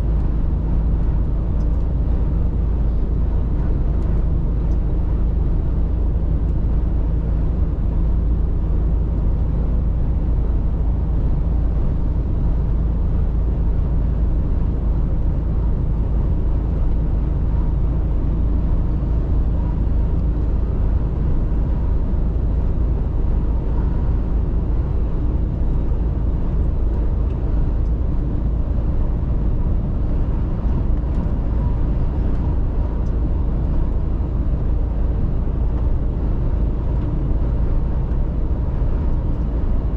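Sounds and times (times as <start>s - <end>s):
truck diesel engine driving: 0.0s - 39.9s.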